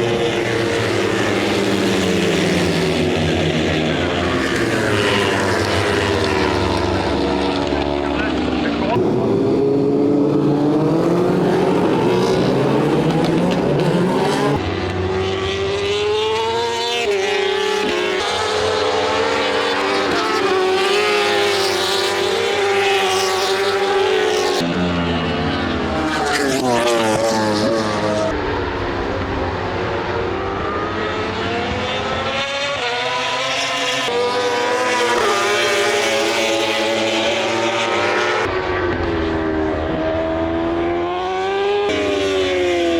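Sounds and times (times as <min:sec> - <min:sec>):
racing motorcycle engines at full throttle: 0:00.0 - 0:42.9.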